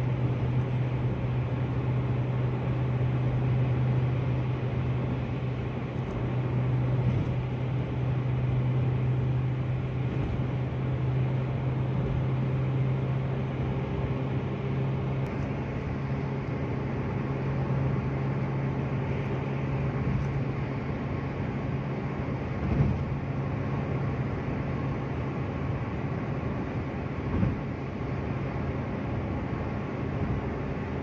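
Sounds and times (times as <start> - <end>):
car engine and drivetrain hum: 0.0 - 31.0
tyre and road noise: 0.0 - 31.0.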